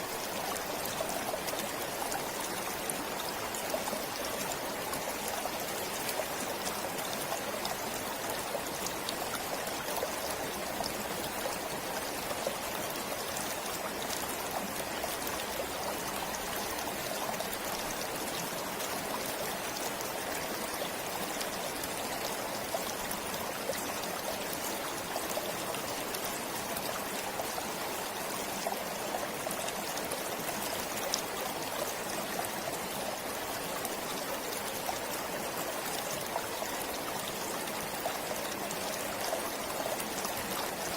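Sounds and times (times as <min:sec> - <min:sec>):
stream flowing over stones: 0:00.0 - 0:40.9.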